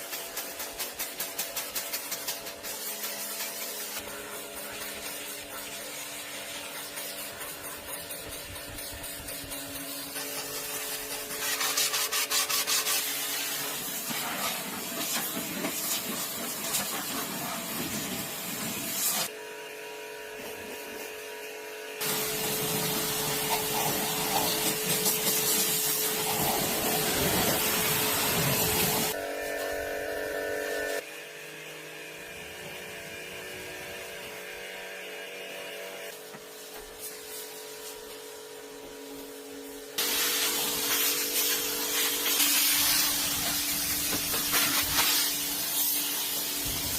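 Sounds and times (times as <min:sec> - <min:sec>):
hissing rasping workshop tool: 0:00.0 - 0:19.3, 0:20.4 - 0:31.2, 0:32.3 - 0:46.9.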